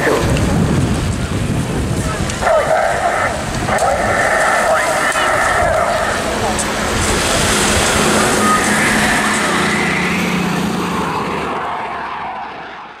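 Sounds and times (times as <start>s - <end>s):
jet roar flying past: 0.0s - 13.0s.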